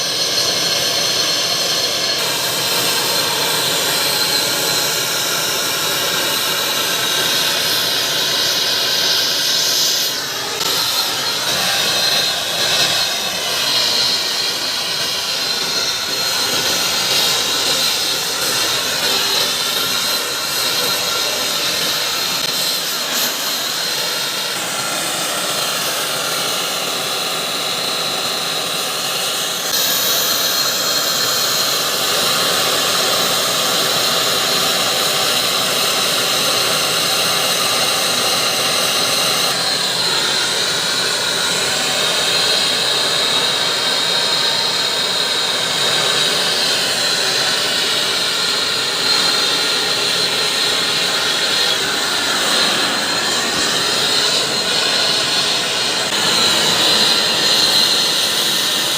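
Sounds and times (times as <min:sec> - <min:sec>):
gas torch flame hissing: 0:00.0 - 0:58.9.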